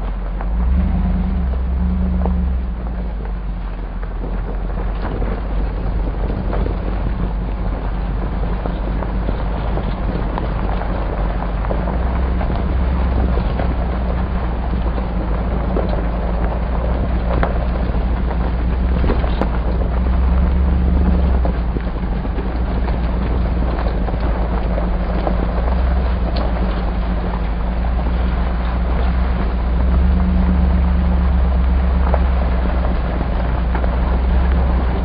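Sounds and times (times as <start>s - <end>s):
low engine drone: 0.0s - 35.0s.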